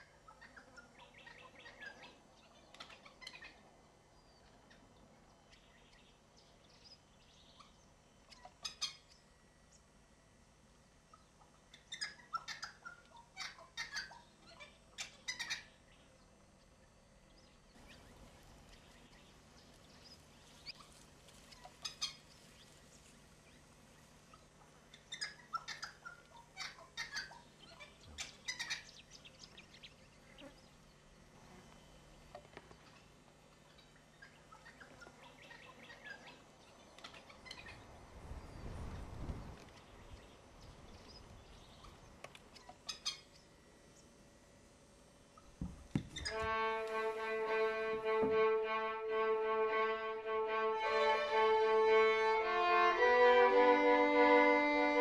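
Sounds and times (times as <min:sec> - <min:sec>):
faint bird chirps: 0:00.0 - 0:44.4.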